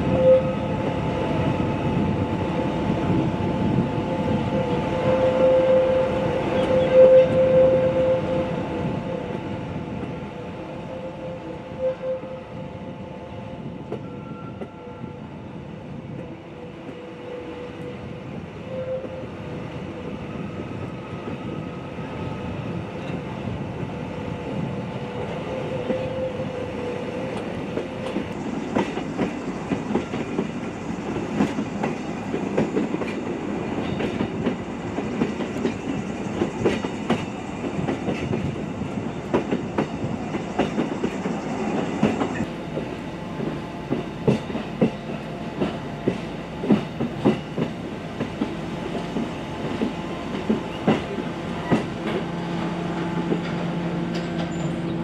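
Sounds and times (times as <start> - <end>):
train wheels rumbling with whine: 0.0 - 55.0.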